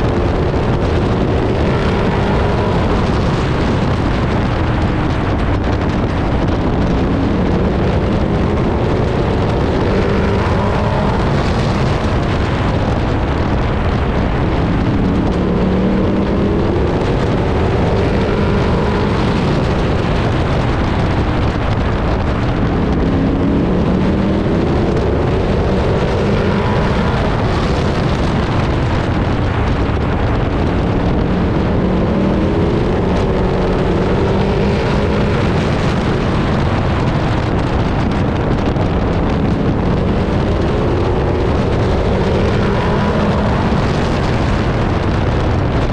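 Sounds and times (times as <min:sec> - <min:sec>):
truck engine revving: 0:00.0 - 0:45.9
wind and road noise: 0:00.0 - 0:45.9.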